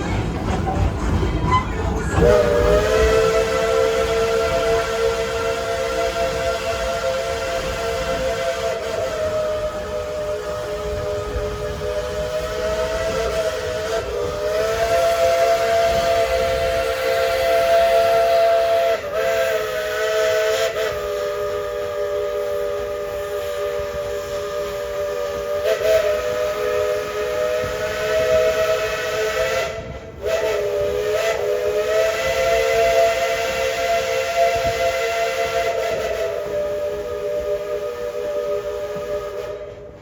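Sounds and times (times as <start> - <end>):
steam locomotive chime whistle: 1.4 - 40.0.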